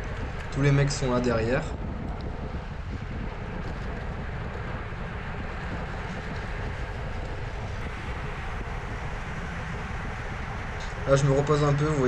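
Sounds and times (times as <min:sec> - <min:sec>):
bike tyre road hum: 0:00.0 - 0:12.0
wind rush over microphone: 0:00.0 - 0:12.0.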